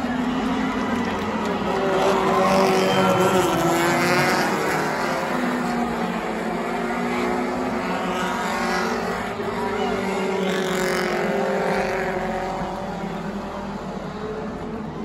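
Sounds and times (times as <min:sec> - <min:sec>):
crowd cheering: 0:00.0 - 0:15.0
race car engines passing: 0:00.0 - 0:15.0.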